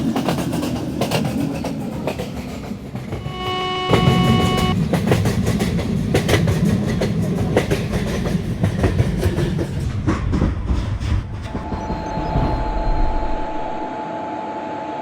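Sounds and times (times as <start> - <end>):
train rumbling past: 0.0 - 14.2.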